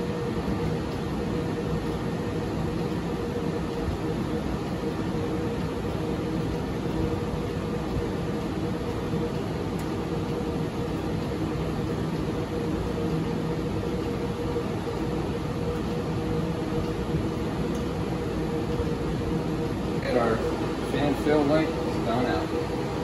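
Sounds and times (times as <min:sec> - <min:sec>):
cooling fans whirring: 0:00.0 - 0:23.0
steady humming tones: 0:00.0 - 0:23.0.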